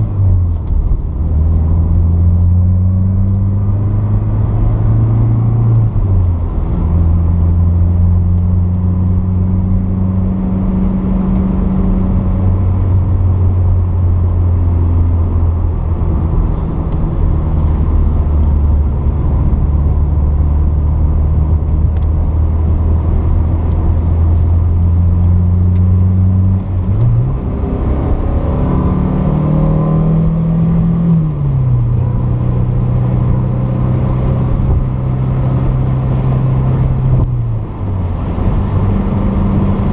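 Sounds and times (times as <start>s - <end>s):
car engine droning at cruising speed: 0.0s - 39.9s
engine revving under acceleration: 0.0s - 39.9s.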